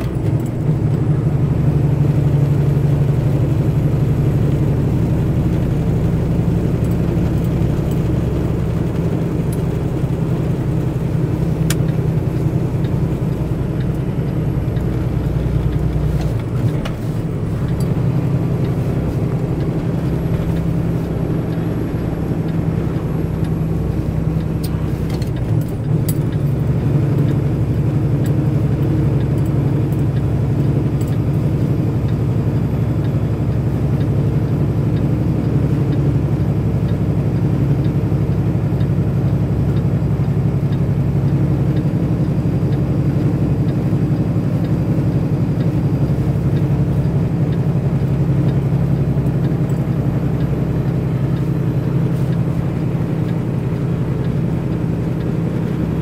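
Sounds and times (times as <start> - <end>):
road noise: 0.0 - 56.0
truck engine drone: 0.0 - 56.0.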